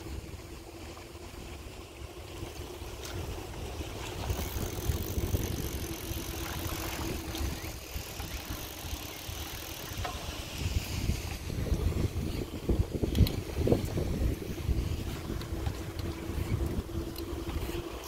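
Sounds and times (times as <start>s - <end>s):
faint steady hum: 0.0s - 18.0s
wind rumbling on microphone: 0.0s - 18.0s.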